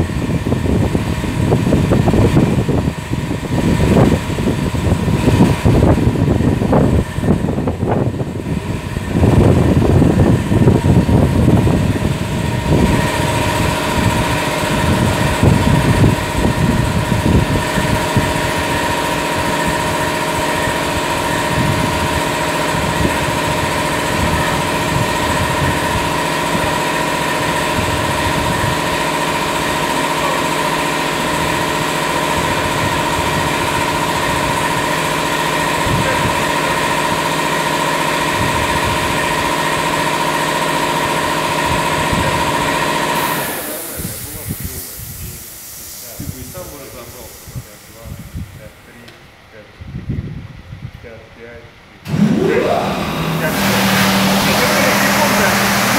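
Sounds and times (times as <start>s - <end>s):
machine whine: 0.0s - 49.0s, 52.0s - 55.9s.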